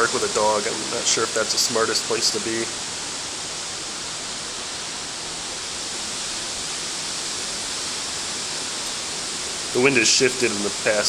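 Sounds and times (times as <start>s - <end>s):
wind rushing through buildings: 0.0s - 11.0s.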